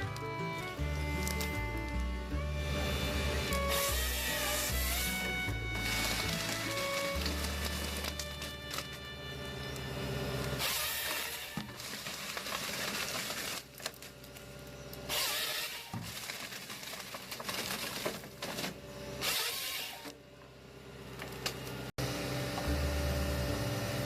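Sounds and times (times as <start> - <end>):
forestry machine engine hum: 0.0 - 24.0.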